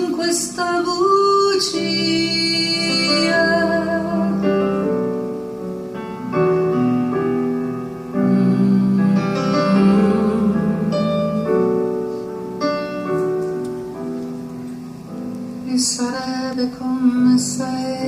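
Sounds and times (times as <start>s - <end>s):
slow ballad piano chords: 0.0s - 18.0s.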